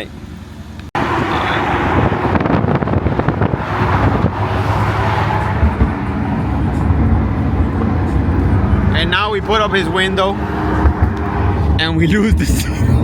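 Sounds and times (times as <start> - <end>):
road and wind noise: 0.0 - 13.0
car engine running: 0.1 - 13.0.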